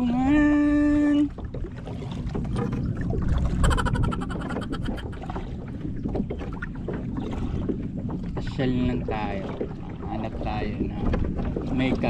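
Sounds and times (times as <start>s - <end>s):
paddle strokes in water: 0.0s - 12.0s
water splashes and drips: 0.0s - 12.0s
wind rumble on microphone: 0.0s - 12.0s.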